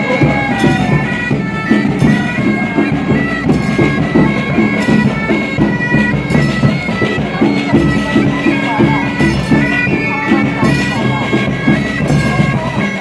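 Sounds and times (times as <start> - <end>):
bagpipes playing melody: 0.0 - 13.0
regular drum beat: 0.0 - 13.0.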